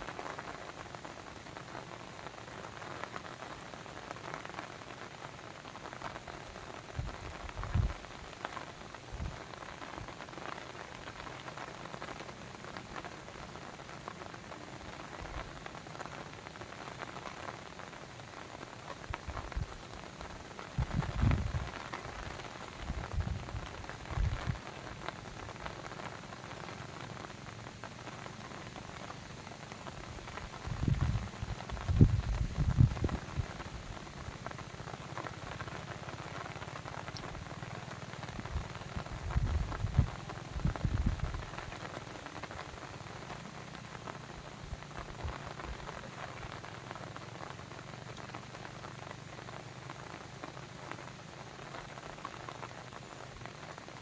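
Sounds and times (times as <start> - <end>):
falling water patter: 0.0 - 54.0.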